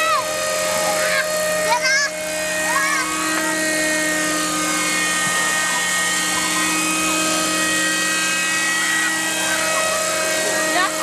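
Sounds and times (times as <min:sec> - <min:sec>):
helicopter running: 0:00.0 - 0:11.0.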